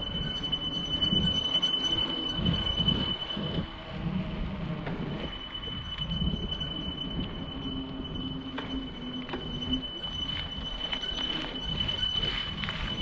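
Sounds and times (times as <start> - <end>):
bicycle tyres rumbling on asphalt: 0.0 - 13.0
thin high whine: 0.0 - 13.0
wind on the microphone: 0.0 - 13.0.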